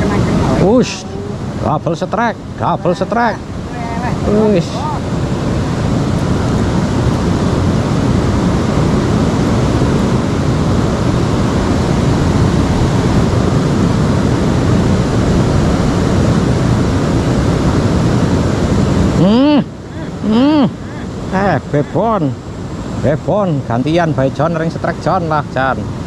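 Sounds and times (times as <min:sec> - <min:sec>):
fast-flowing river water rushing: 0:00.0 - 0:26.0.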